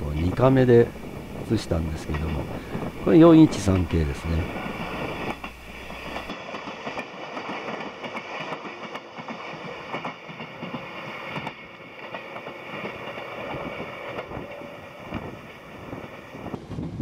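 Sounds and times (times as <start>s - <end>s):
wheels clattering over rail joints: 0.0s - 16.7s
electric train passing: 0.0s - 17.0s.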